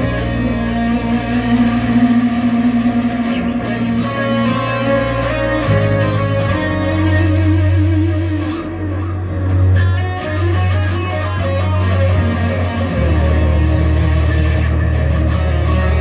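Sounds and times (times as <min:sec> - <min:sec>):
electric guitar low notes: 0:00.0 - 0:16.0.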